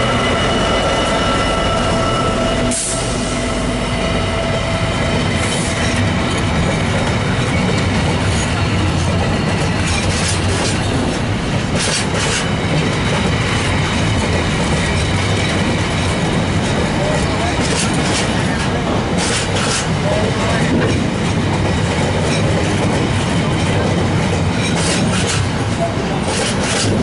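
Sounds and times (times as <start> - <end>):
freight train rumbling past: 0.0 - 27.0
wheels clacking on rail joints: 3.9 - 27.0.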